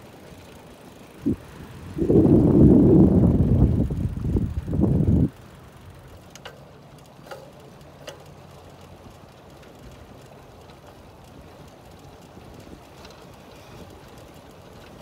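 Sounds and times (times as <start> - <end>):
bicycle tyre rumble on concrete: 0.0 - 15.0.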